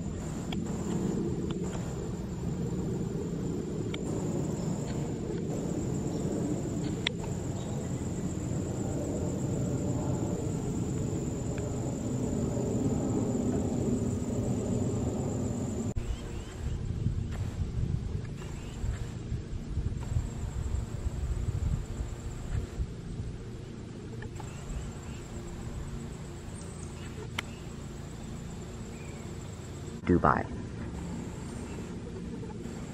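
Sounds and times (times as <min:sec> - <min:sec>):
high insect trill: 0:00.0 - 0:32.9
jet engines rumbling overhead: 0:00.0 - 0:32.9.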